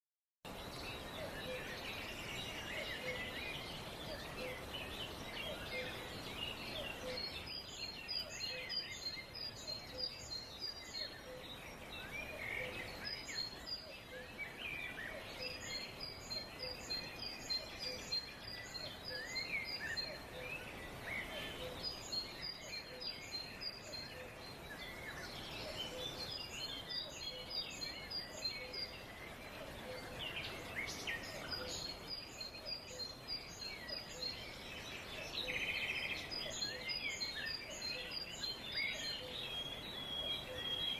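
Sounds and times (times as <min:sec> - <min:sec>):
birds chirping: 0:00.5 - 0:40.9
steady background hiss: 0:00.5 - 0:40.9.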